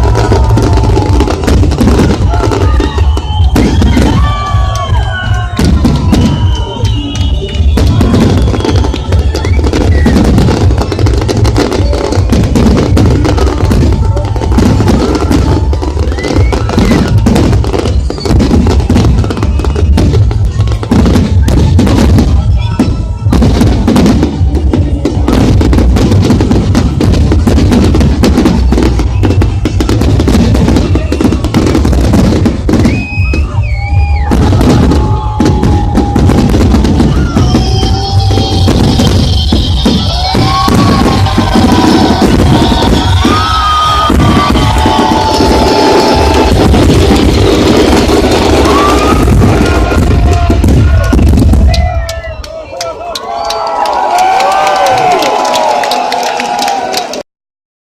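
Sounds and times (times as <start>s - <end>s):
whistling firework shells: 0.0s - 25.4s, 26.1s - 52.5s
fireworks booming and crackling: 0.0s - 52.7s.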